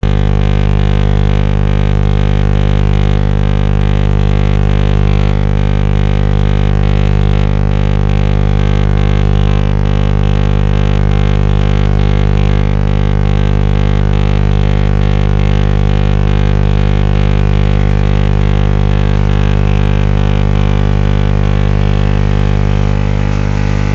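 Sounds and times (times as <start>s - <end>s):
radio buzzing tone: 0.0s - 23.9s.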